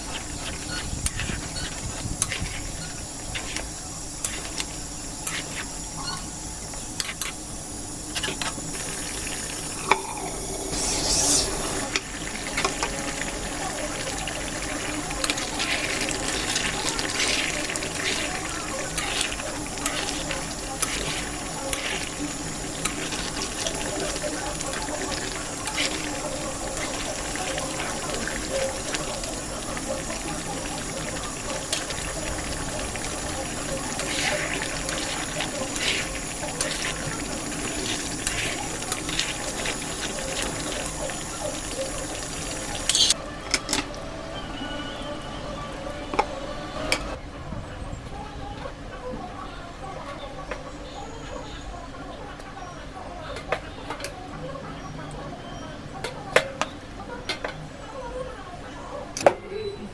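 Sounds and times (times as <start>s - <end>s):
chicken sizzling and bubbling: 0.0s - 59.7s.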